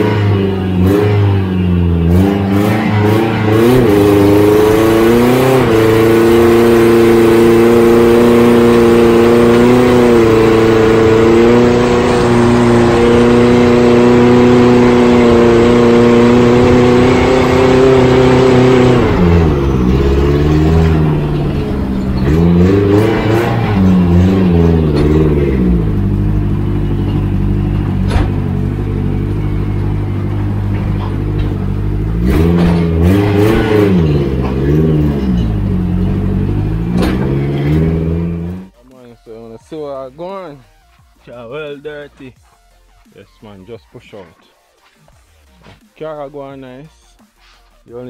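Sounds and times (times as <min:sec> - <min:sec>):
car engine revving: 0:00.0 - 0:38.8.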